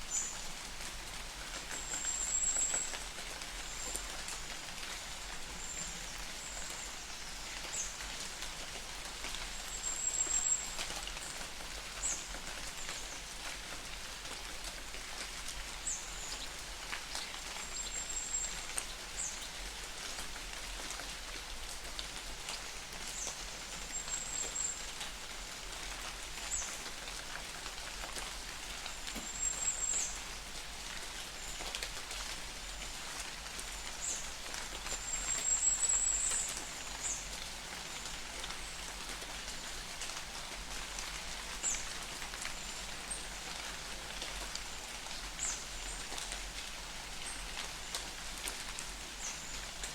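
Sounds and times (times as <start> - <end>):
light rain falling: 0.0 - 49.9.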